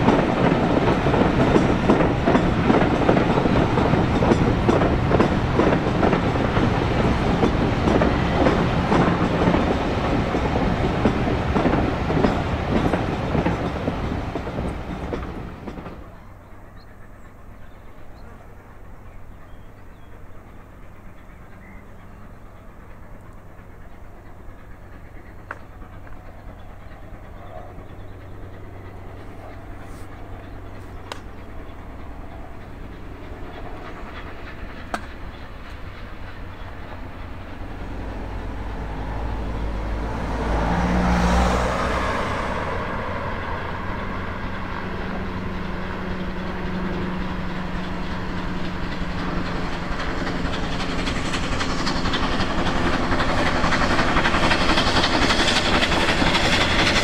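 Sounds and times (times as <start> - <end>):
steam locomotive exhaust: 0.0 - 57.0
train running on rails: 0.0 - 57.0.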